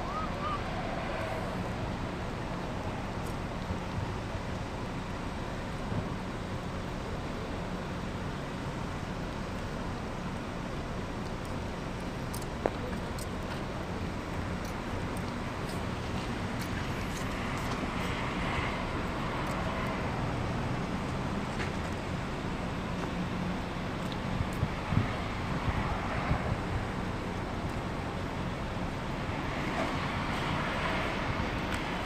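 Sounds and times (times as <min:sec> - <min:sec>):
distant road traffic rumble: 0:00.0 - 0:32.0.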